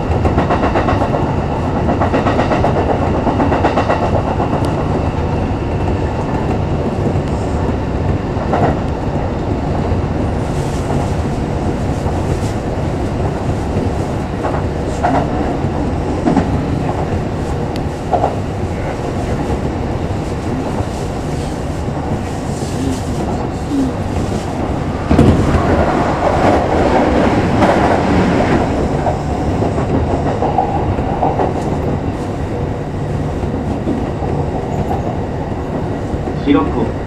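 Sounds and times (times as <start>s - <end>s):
passing train: 0.0s - 37.0s
train wheels rumbling on rails: 0.0s - 37.0s.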